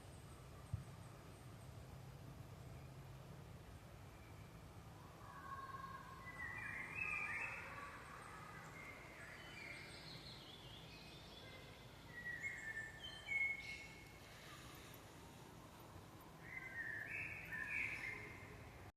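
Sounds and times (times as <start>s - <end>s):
faint background noise: 0.0s - 18.9s
songbirds chirping faintly: 0.0s - 18.9s.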